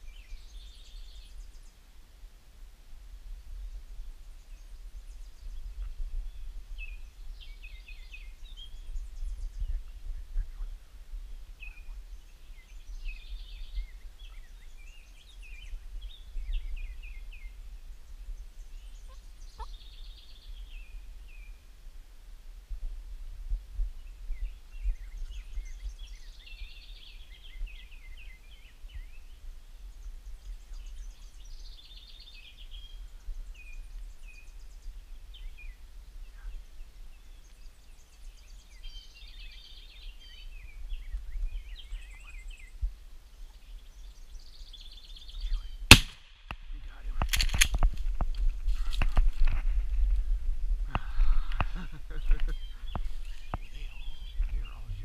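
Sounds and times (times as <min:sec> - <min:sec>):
songbird singing: 0:00.0 - 0:02.0, 0:03.3 - 0:21.8, 0:23.7 - 0:55.0.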